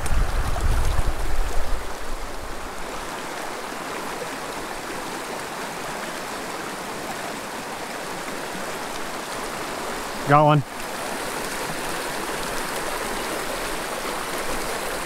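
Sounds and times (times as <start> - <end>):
creek running over rocks: 0.0 - 15.0.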